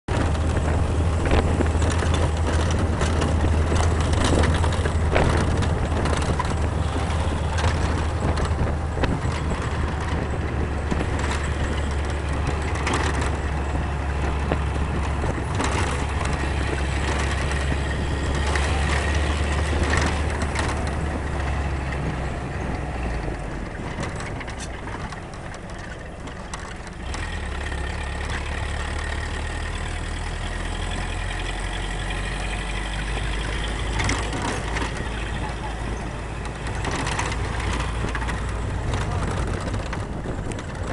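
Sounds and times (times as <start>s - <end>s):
off-road vehicle engine droning: 0.0s - 40.9s
knocks and rattles: 0.1s - 40.9s.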